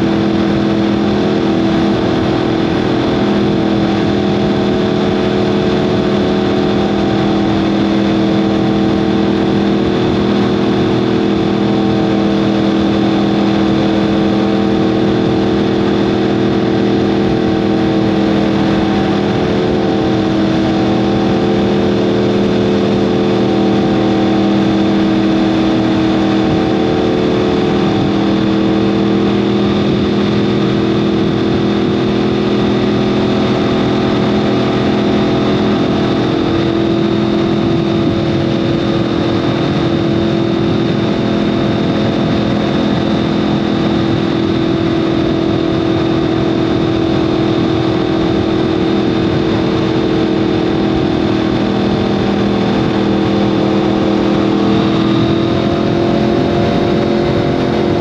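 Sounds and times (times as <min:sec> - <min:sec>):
motorcycle engine cruising: 0:00.0 - 0:58.0
steady rushing noise: 0:00.0 - 0:58.0.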